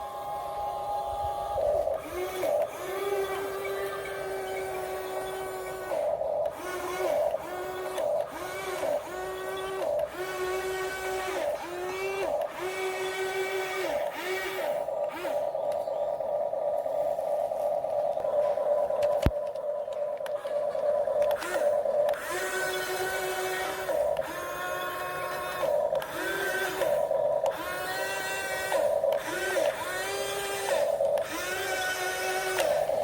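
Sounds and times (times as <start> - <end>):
small electric motors whining: 0.0 - 33.0
steady motor hum: 0.0 - 33.0.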